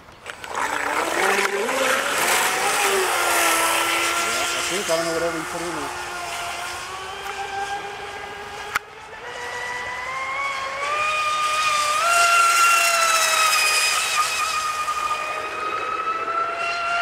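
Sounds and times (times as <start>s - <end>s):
model boat motor whine: 0.0s - 17.0s.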